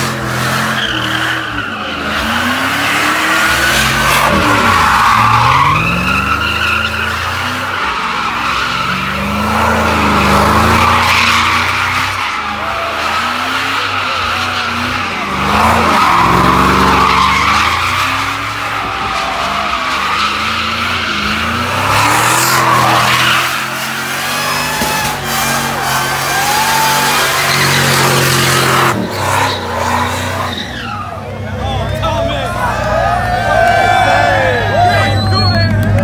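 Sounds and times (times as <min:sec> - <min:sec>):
truck engine revving: 0:00.0 - 0:36.0
tyres screeching: 0:00.4 - 0:36.0.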